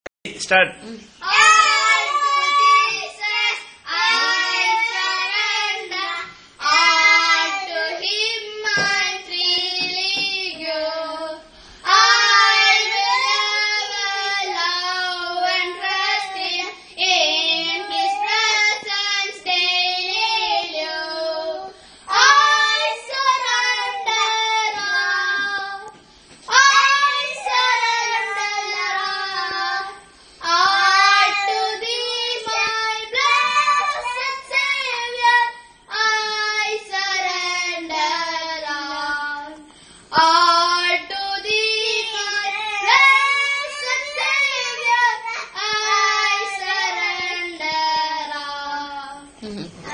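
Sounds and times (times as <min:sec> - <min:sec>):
boys singing unaccompanied: 0:01.2 - 0:49.9.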